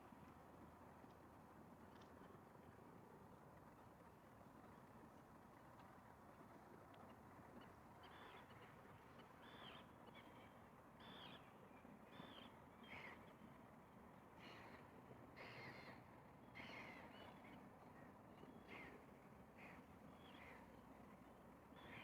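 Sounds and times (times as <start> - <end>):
lakeside ambient hiss: 0.0 - 22.0.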